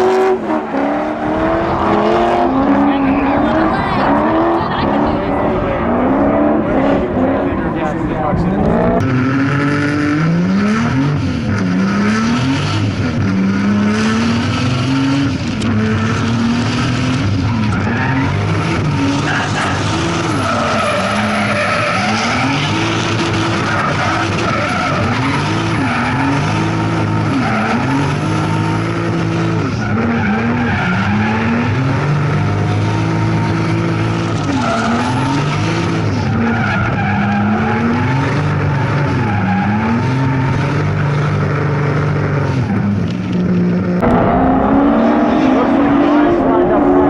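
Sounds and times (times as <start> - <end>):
car engine revving hard: 0.0 - 47.0.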